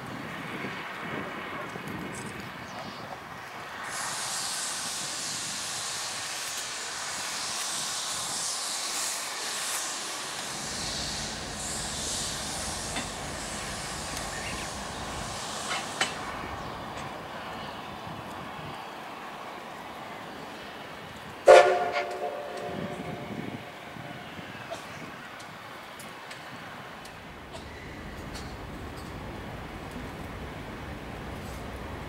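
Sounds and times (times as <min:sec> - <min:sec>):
steam hissing from locomotive: 0:03.3 - 0:32.0.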